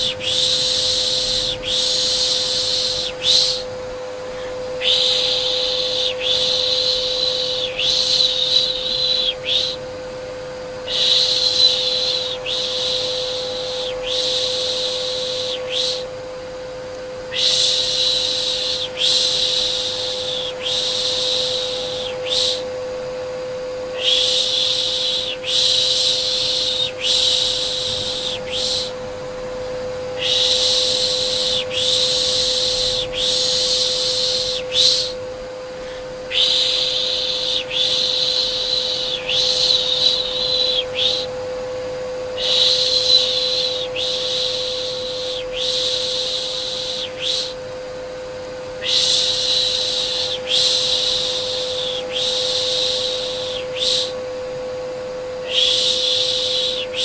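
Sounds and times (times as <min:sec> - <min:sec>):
vacuum cleaner hum: 0:00.0 - 0:57.0.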